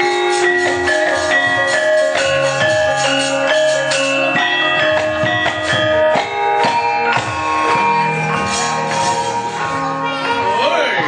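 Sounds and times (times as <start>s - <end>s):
gamelan ensemble playing: 0.0s - 11.0s.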